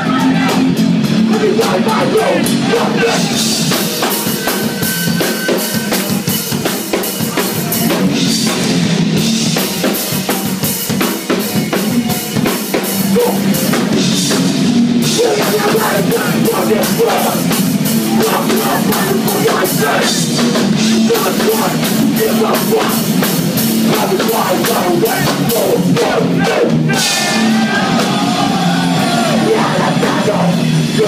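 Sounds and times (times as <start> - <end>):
fast drum beat: 0.0 - 31.0
live rock band playing: 0.0 - 31.0.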